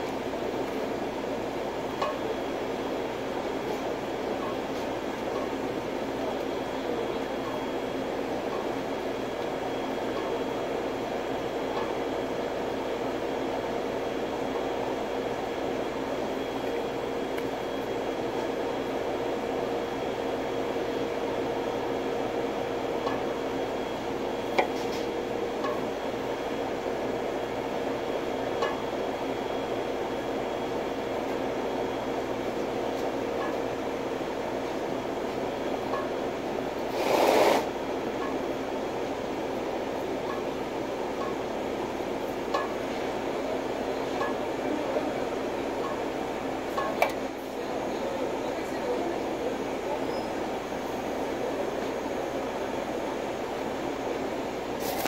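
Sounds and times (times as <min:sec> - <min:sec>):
exhaust fan humming: 0:00.0 - 0:55.0.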